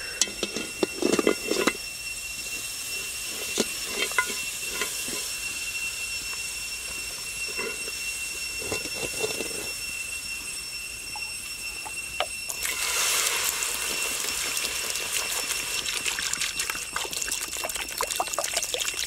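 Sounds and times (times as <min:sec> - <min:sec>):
crab sizzling in a wok: 0:00.0 - 0:19.0.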